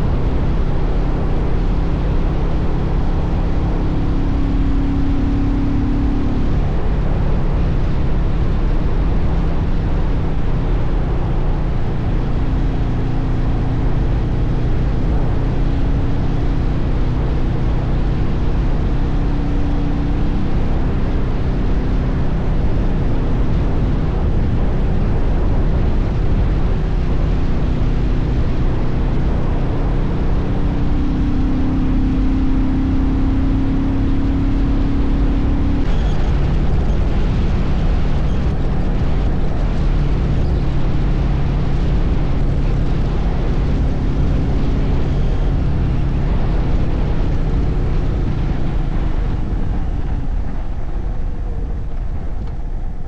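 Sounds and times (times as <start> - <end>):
motorcycle engine cruising: 0.0 - 53.0
wind rush on microphone: 0.0 - 53.0.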